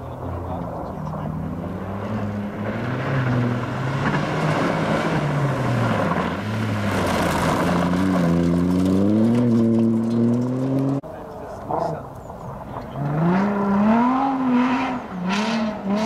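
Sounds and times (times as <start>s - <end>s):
gravel rushing under tyres: 0.0s - 13.0s
rally car engine revving: 0.0s - 16.0s.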